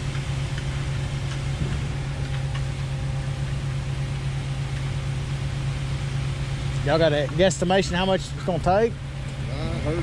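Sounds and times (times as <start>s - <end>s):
pump truck engine droning: 0.0s - 10.0s.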